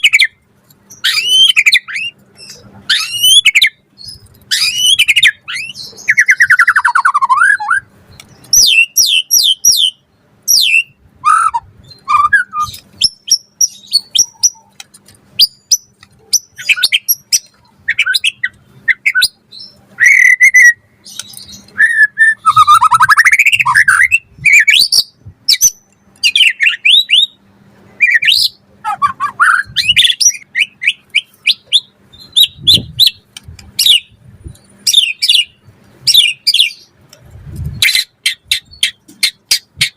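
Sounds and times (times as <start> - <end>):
songbird singing whistled phrases: 0.0 - 14.8, 15.4 - 27.4, 28.0 - 34.2, 34.8 - 36.9.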